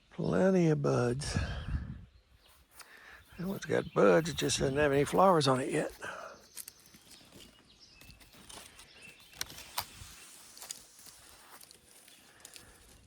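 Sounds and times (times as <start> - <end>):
footsteps in long grass: 2.5 - 13.0.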